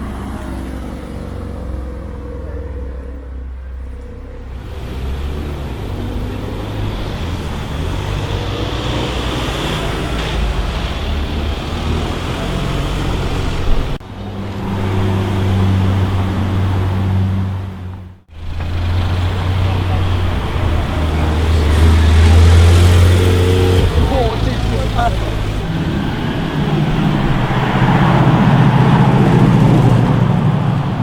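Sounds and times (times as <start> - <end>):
car engines running: 0.0 - 31.0
low engine hum: 0.0 - 31.0
street traffic noise: 0.0 - 31.0.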